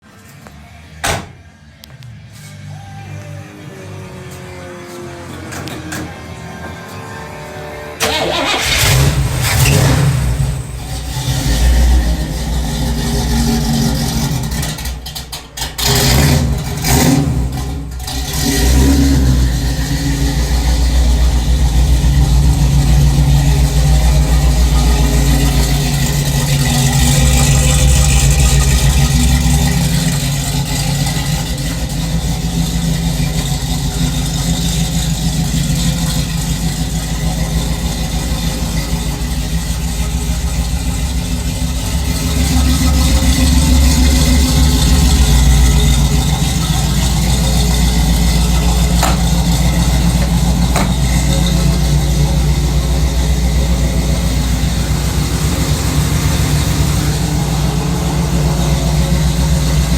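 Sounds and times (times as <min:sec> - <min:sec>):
pickup engine idling: 0:08.0 - 0:59.9.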